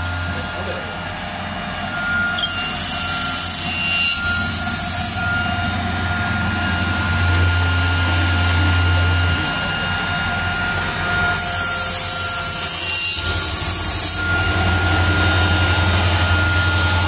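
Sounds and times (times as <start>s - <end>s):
machine hum and whine: 0.0s - 17.0s
cutter screeching in metal: 1.9s - 7.9s, 8.7s - 17.0s.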